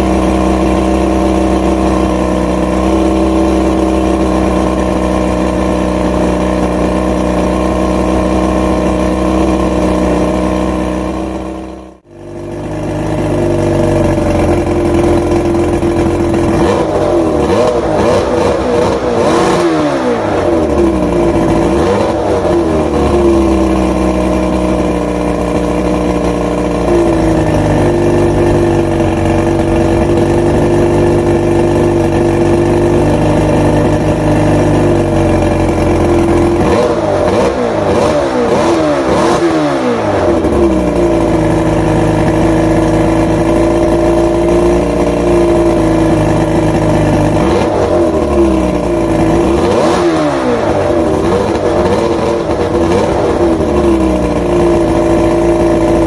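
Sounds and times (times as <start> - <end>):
outboard engine idling and revving: 0.0 - 56.0.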